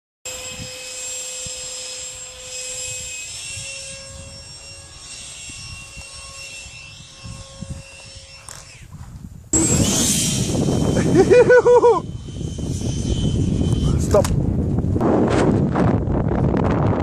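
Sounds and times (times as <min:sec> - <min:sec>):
electric ducted fan whining: 0:00.3 - 0:17.0
wind buffeting: 0:00.4 - 0:17.0.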